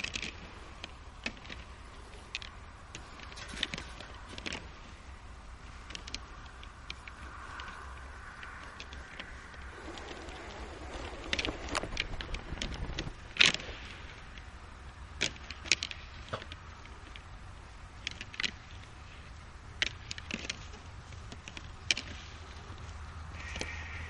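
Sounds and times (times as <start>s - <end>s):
deer antlers clashing: 0.0s - 24.0s.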